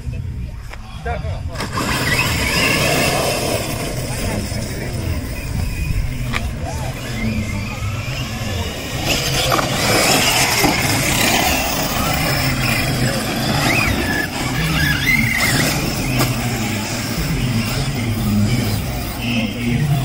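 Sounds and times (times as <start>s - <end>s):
rc truck motors whining: 0.9s - 20.0s.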